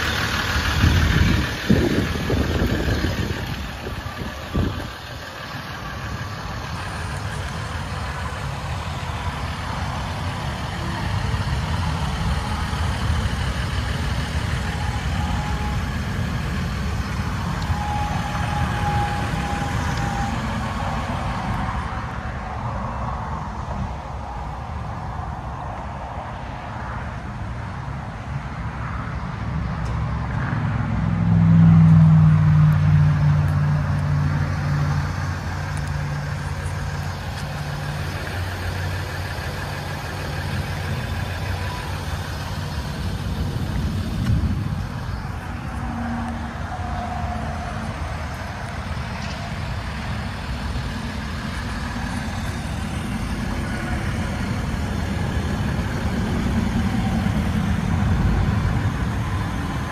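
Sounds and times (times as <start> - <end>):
pitched engine hum: 0.0 - 59.9
vehicle engine rumble: 0.0 - 59.9.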